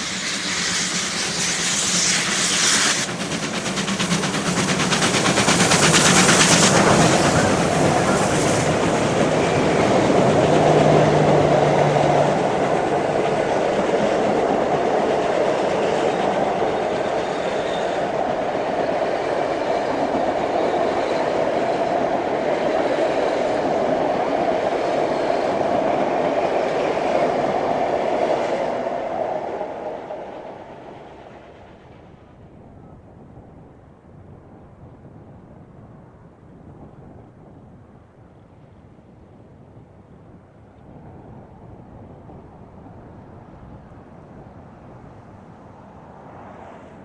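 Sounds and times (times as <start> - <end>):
steam train rumbling past: 0.0 - 47.0.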